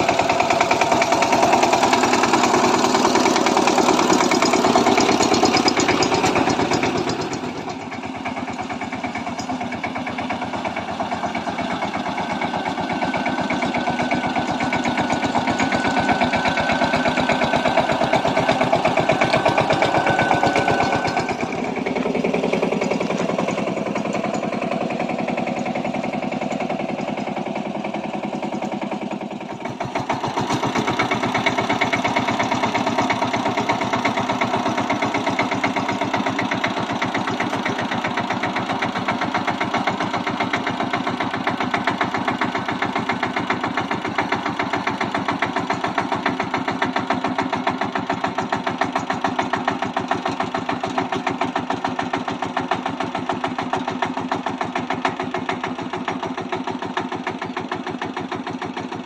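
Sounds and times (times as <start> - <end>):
power tiller diesel engine running: 0.0 - 59.0.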